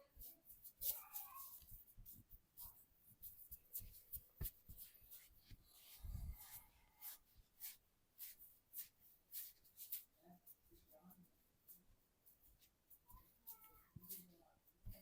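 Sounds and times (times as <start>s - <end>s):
hands rubbing skin and hair: 0.0s - 15.0s.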